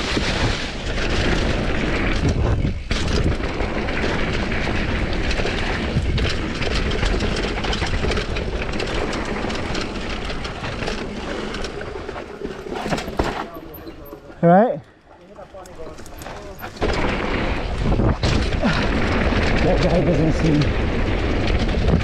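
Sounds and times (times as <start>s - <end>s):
wind buffeting microphone: 0.0s - 12.0s, 15.5s - 22.0s
bike rattling with clicks: 0.0s - 22.0s
tyres rumbling over dirt: 0.0s - 22.0s.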